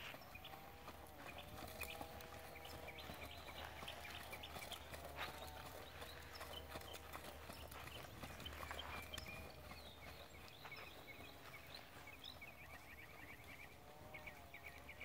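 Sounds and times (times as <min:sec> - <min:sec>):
soft hoofbeats on sand: 0:00.0 - 0:15.0.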